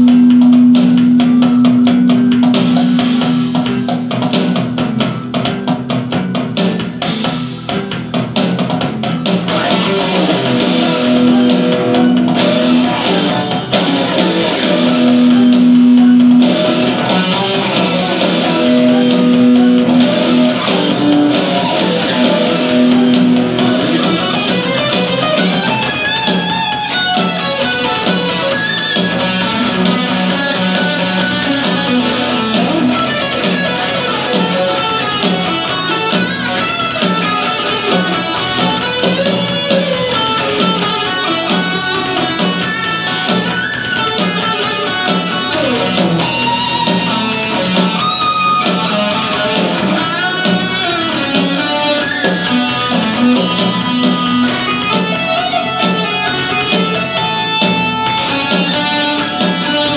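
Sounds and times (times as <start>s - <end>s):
electric guitar playing rock: 0.0s - 59.9s.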